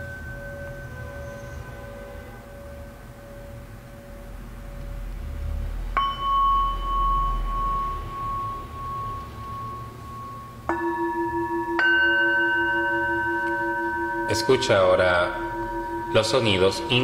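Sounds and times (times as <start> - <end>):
singing bowls ringing: 0.0 - 17.0.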